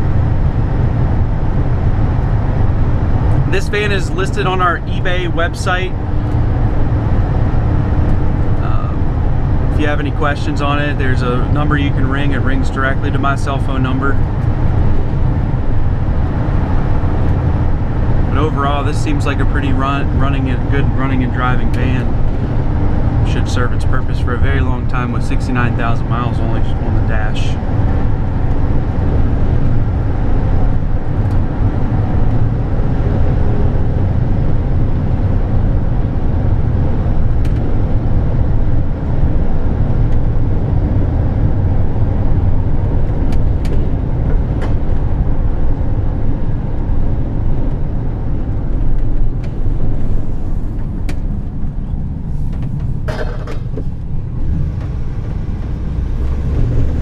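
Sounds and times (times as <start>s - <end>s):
van road and engine rumble: 0.0s - 57.0s.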